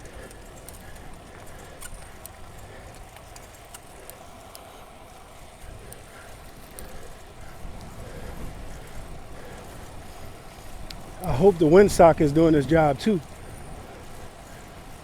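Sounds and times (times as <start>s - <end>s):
faint bicycle clicks: 0.0s - 15.0s
wind and road noise: 0.0s - 15.0s.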